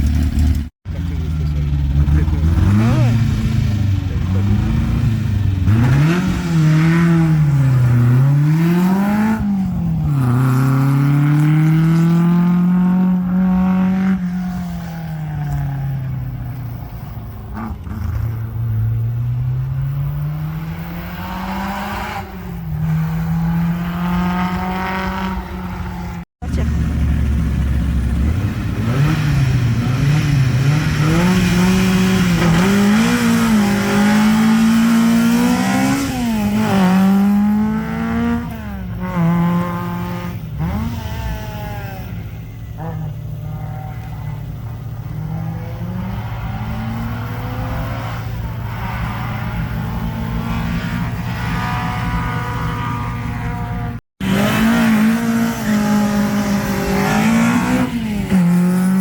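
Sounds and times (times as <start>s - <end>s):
rally car engine accelerating: 0.0s - 59.0s
rally car engine revving: 0.0s - 59.0s.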